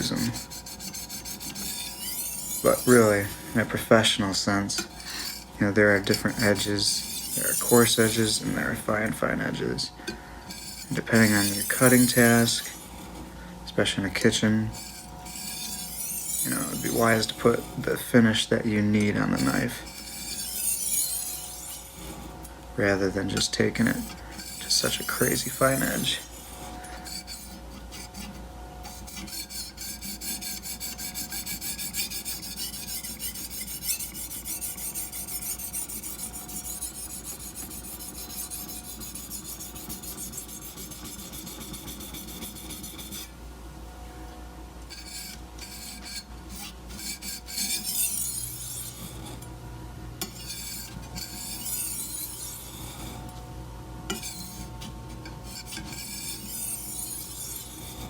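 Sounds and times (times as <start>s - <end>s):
knife scraping on sharpening stone: 0.0s - 4.2s, 4.8s - 9.0s, 10.5s - 13.1s, 14.4s - 17.9s, 19.0s - 22.4s, 23.3s - 43.3s, 44.9s - 49.4s, 50.2s - 53.3s, 54.1s - 58.0s.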